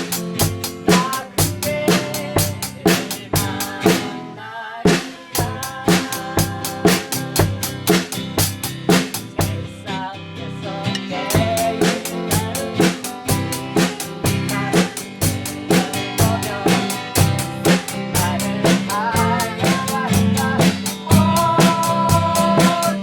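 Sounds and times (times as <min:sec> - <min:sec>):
drum kit steady beat: 0:00.0 - 0:04.2, 0:04.9 - 0:09.7, 0:11.3 - 0:23.0.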